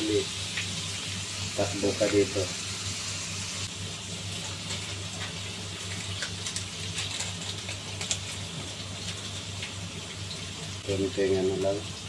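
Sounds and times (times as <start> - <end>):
constant low hum: 0.0 - 12.0
food sizzling in sauce: 0.0 - 12.0.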